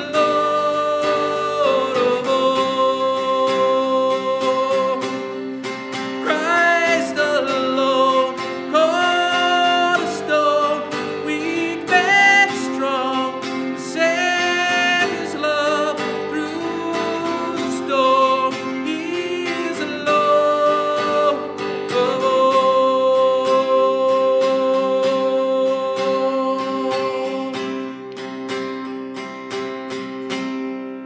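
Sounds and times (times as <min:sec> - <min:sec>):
acoustic guitar music: 0:00.0 - 0:31.0.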